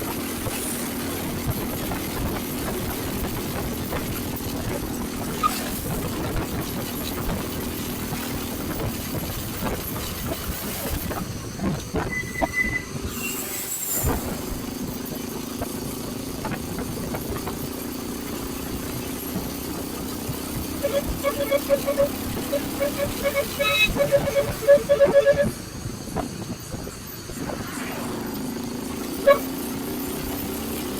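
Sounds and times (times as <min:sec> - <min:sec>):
motorcycle engine hum: 0:00.0 - 0:12.2, 0:14.4 - 0:30.9
wind and road noise: 0:00.0 - 0:30.9.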